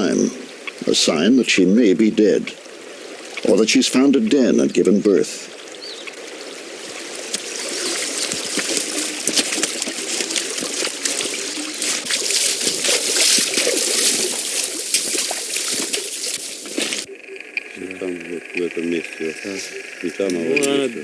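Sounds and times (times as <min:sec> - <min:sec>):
water trickling and splashing: 0:00.0 - 0:17.1.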